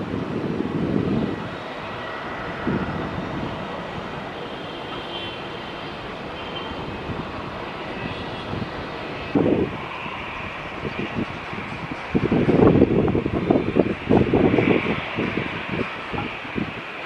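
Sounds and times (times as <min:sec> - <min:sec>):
distant jet engines: 0:00.0 - 0:17.0
wind gusts on microphone: 0:00.0 - 0:17.0.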